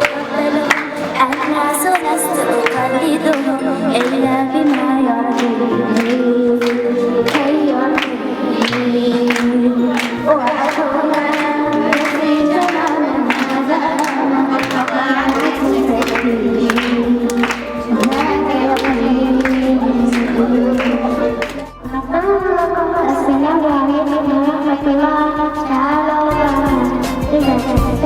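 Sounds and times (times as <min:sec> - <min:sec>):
group of voices singing: 0:00.0 - 0:28.0
steady music beat: 0:00.0 - 0:28.0.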